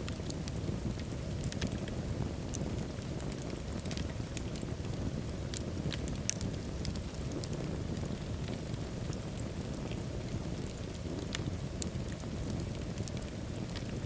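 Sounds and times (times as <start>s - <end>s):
fire roaring: 0.0s - 14.0s
wood fire crackles and pops: 0.0s - 14.0s.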